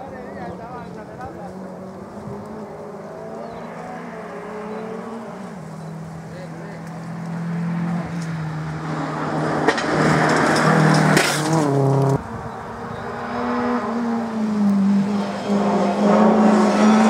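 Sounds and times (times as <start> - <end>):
rally car engine approaching: 0.0 - 17.0
rally car engine passing: 0.0 - 17.0.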